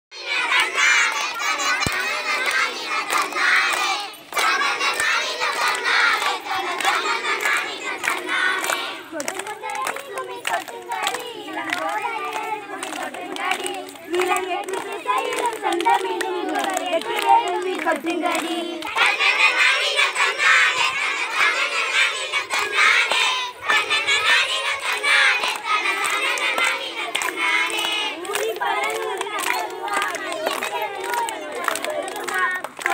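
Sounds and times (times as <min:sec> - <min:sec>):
children shouting and cheering: 0:00.1 - 0:32.9
girls singing folk song in chorus: 0:00.1 - 0:32.9
hand claps: 0:00.3 - 0:19.2, 0:22.0 - 0:32.9.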